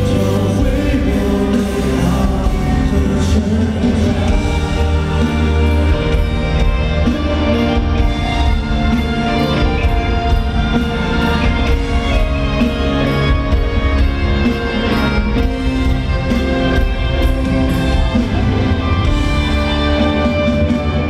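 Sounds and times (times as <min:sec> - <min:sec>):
live pop band over loudspeakers: 0:00.0 - 0:21.0.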